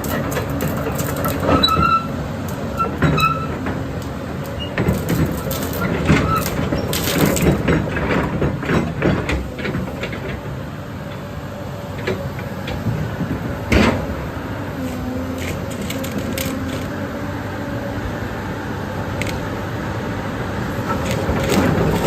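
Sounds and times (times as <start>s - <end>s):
excavator engine hum: 0.0s - 22.0s.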